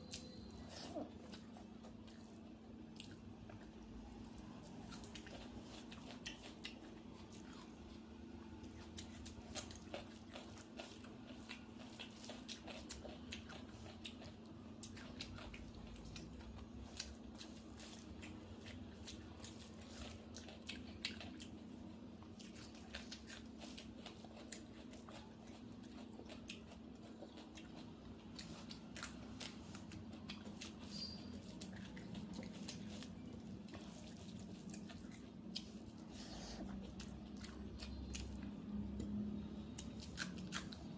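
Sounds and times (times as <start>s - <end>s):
low steady hum: 0.0s - 40.9s
person chewing food: 0.0s - 40.9s.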